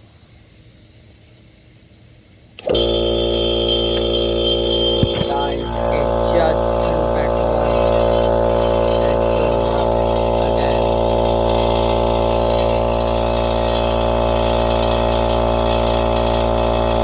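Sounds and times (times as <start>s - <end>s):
air compressor running: 2.6s - 17.0s.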